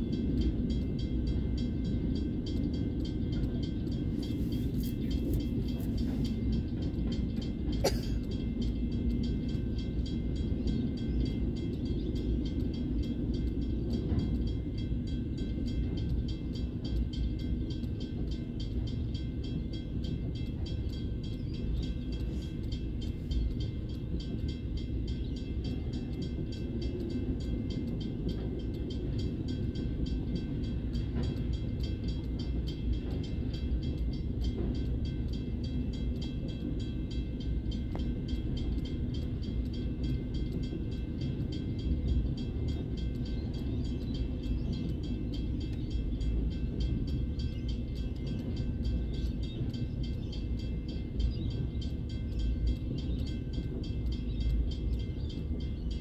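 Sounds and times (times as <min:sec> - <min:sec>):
crossing warning bell ringing: 0:00.0 - 0:56.0
train wheels rumbling on rails: 0:00.0 - 0:56.0.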